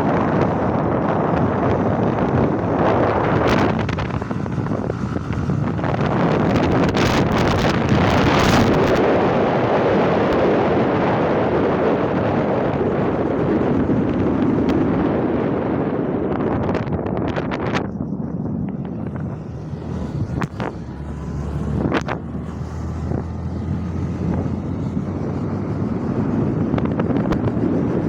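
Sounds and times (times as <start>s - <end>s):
motorcycle running with road noise: 0.0s - 28.0s
wind rushing over microphone: 0.0s - 28.0s.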